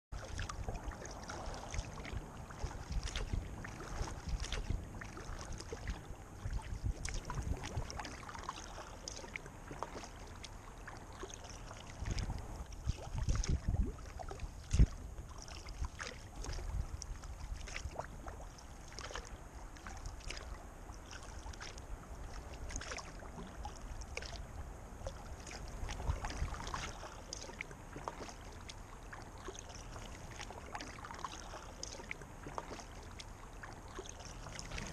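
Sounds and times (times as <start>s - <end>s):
paddle splashes and drips: 0.1s - 34.9s
wind rumble on microphone: 0.2s - 30.7s, 34.3s - 34.9s.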